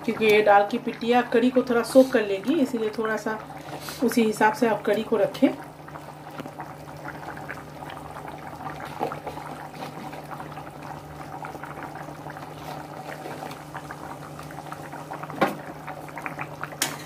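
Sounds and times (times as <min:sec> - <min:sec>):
gravy bubbling at a boil: 0:00.0 - 0:17.0.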